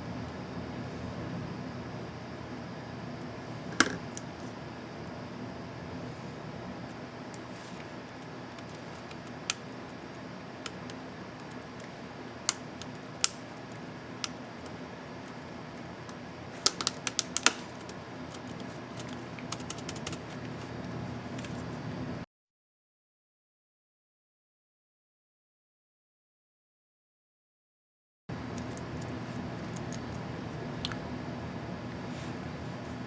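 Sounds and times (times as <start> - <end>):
steady low hum: 0.0 - 22.2, 28.3 - 33.0.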